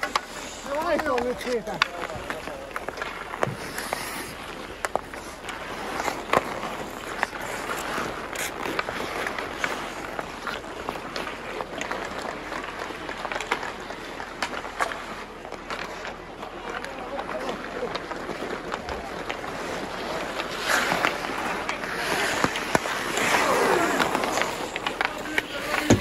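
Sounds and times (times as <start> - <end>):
hockey sticks clacking: 0.0 - 26.0
skates scraping on ice: 0.0 - 26.0.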